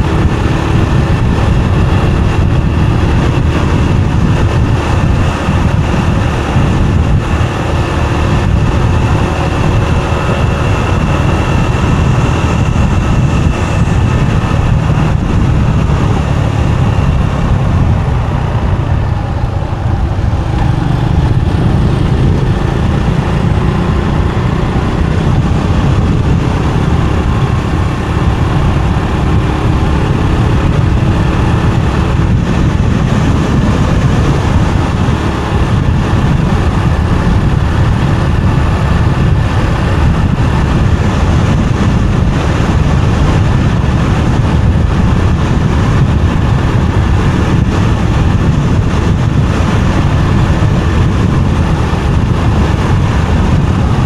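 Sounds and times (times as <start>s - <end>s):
motorbike engine and road noise: 0.0s - 54.0s.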